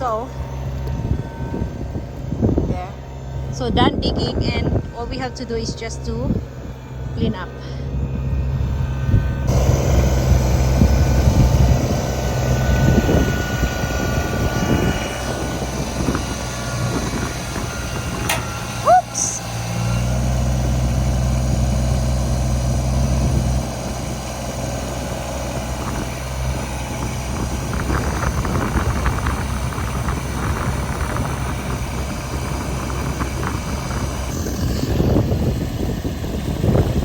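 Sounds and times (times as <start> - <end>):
diesel engine humming: 0.0 - 37.0
rough noisy engine crackling: 0.0 - 37.0.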